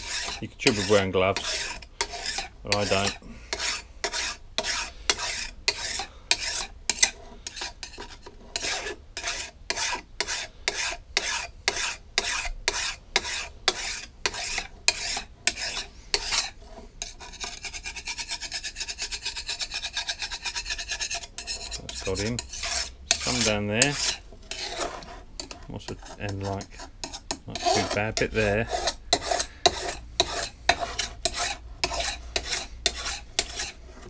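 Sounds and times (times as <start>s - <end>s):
file rasping on metal: 0.0s - 34.0s.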